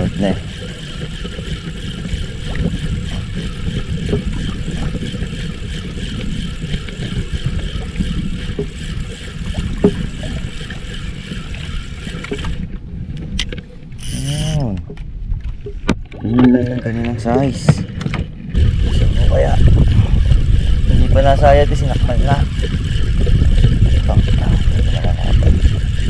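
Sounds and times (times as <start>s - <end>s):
fishing reel cranking: 0.0s - 12.7s, 13.4s - 14.8s, 18.5s - 26.0s
water around boat: 0.0s - 26.0s
wind: 0.0s - 26.0s.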